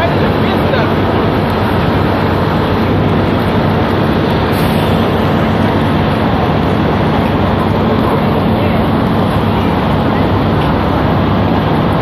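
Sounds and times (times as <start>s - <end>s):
fire engine diesel engines humming: 0.0s - 12.0s
street noise: 0.0s - 12.0s.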